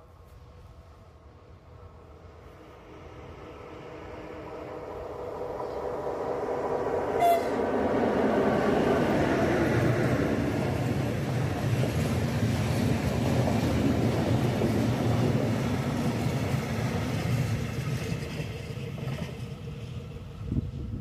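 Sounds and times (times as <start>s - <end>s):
freight train wheels rumbling on rails: 1.4s - 21.0s.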